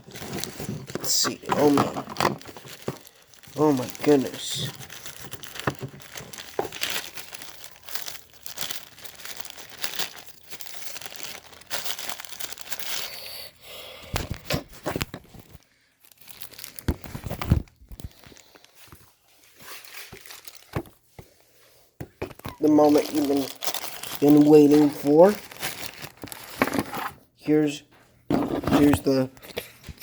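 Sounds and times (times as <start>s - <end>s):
packaging crinkling and tearing: 0.0s - 13.4s, 14.1s - 21.0s, 22.3s - 27.2s.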